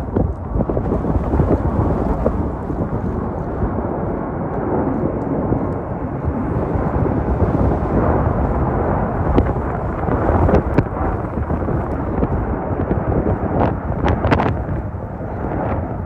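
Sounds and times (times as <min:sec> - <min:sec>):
jet engine rumble: 0:00.0 - 0:16.0
wind buffeting microphone: 0:00.0 - 0:16.0.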